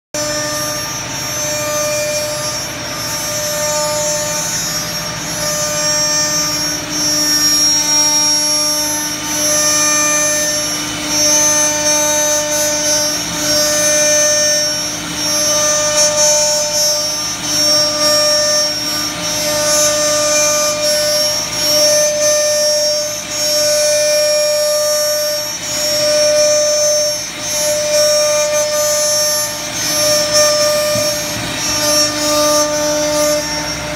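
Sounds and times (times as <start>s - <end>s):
router spindle cutting wood: 0.2s - 33.9s.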